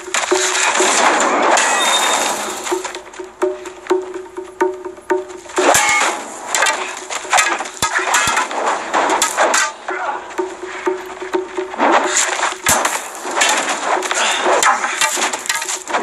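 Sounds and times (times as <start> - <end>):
blades clashing on shields: 0.0 - 16.0
film score with pulsing beat: 0.0 - 16.0.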